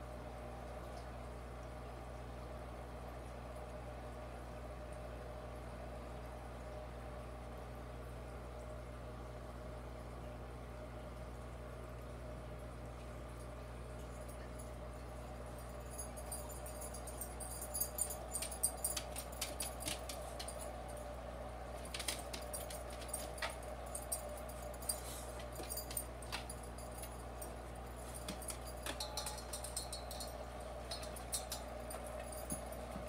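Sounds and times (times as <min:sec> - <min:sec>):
aquarium equipment humming: 0:00.0 - 0:33.0.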